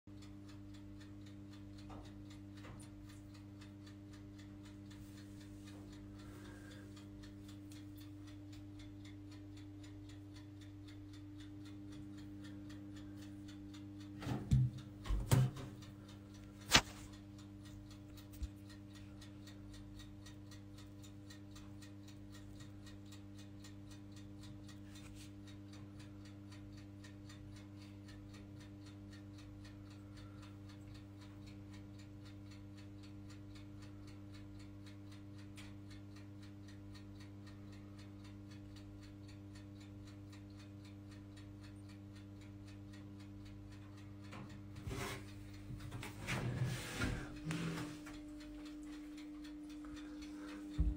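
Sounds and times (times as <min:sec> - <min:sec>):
low electrical hum: 0:00.1 - 0:50.9.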